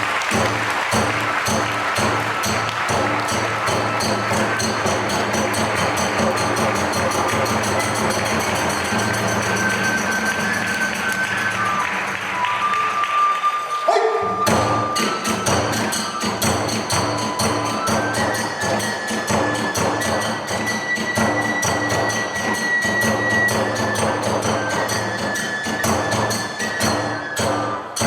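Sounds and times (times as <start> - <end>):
taiko drum strokes: 0.0 - 13.3, 13.9 - 28.0
bamboo flute long high notes: 0.0 - 28.0
ringing hand cymbals: 0.0 - 28.0.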